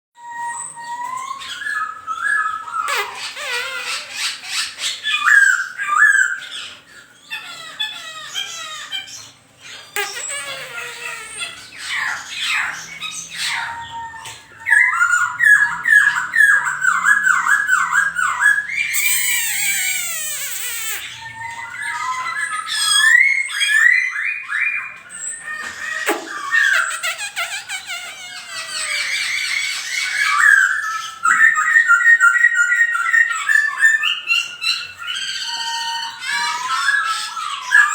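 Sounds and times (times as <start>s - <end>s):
songbird singing: 0.2s - 37.9s.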